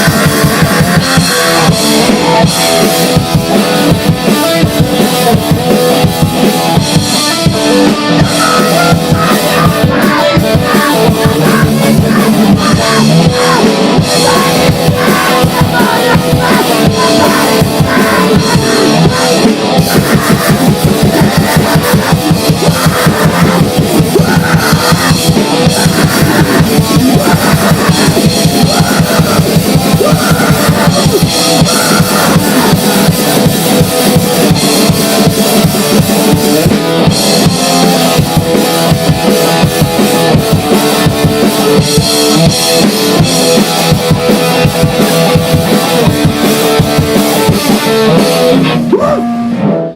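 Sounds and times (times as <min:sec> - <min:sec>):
fast drumming: 0:00.0 - 0:49.3
distorted guitars: 0:00.0 - 0:49.9.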